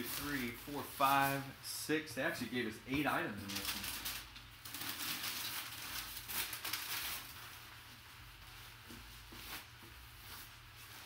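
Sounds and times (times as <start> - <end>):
packing paper rustling: 0.0 - 1.5, 3.0 - 11.0.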